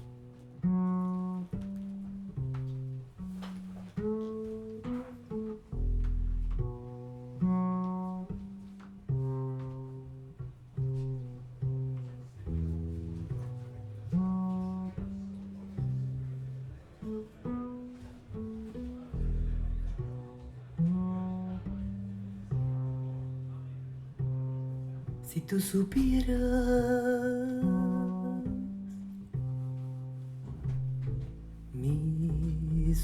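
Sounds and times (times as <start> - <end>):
deep plucked string notes: 0.0 - 33.0.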